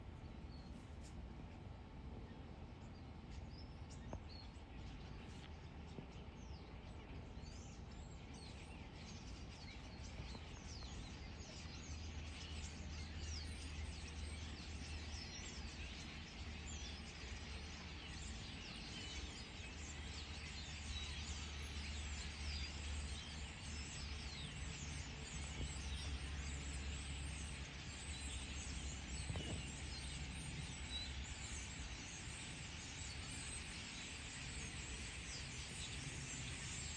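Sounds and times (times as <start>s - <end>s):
flock of birds chirping: 0.0s - 36.9s.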